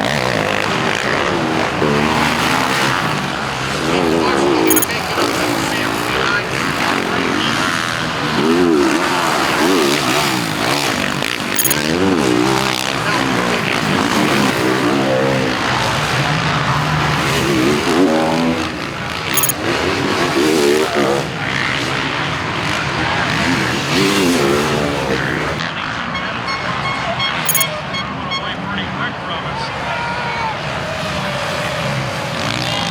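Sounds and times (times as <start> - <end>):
motocross bikes revving: 0.0 - 26.0, 27.4 - 32.9.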